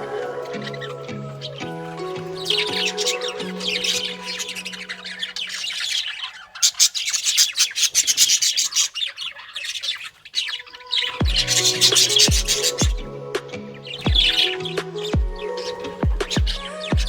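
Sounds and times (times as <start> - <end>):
lovebirds chirping and chattering: 0.0 - 17.0.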